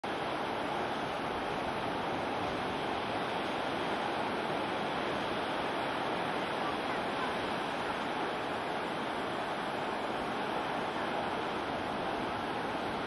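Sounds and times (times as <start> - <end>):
ocean surf breaking over rocks: 0.1 - 13.0.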